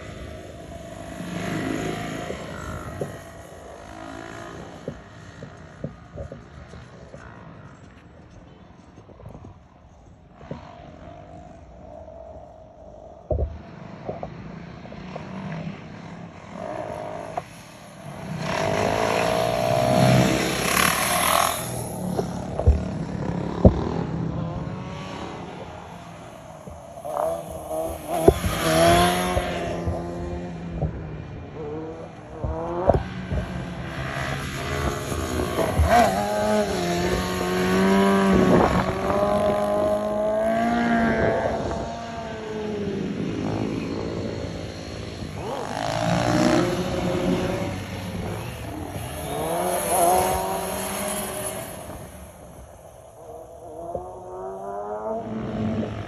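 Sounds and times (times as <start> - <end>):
motorcycle engine revving: 0.0 - 7.9, 13.3 - 56.0.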